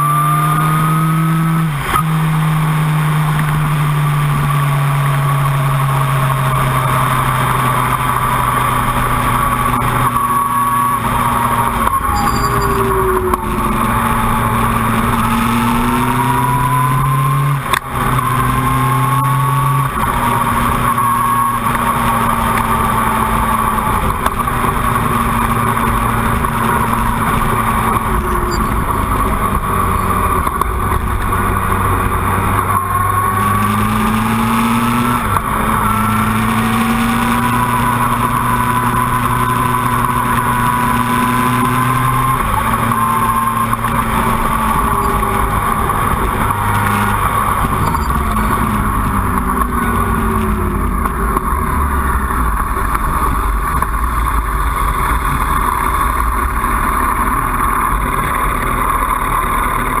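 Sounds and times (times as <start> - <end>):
motorcycle engine: 0.0 - 60.0.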